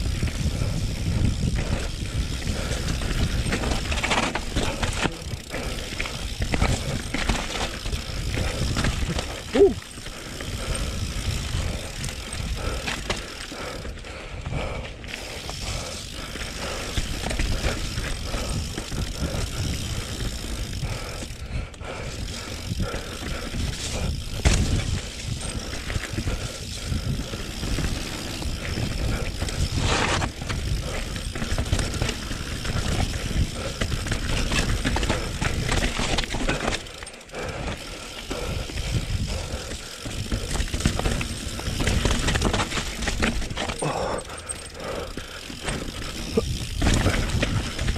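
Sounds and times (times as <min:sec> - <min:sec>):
bike chain and frame rattling: 0:00.0 - 0:47.9
bike tyres rolling over dirt: 0:00.0 - 0:47.9.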